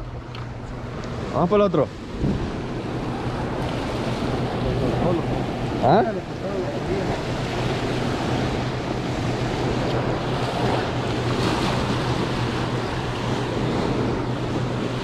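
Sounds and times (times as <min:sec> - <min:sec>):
turbulent water rushing: 0:01.2 - 0:15.0.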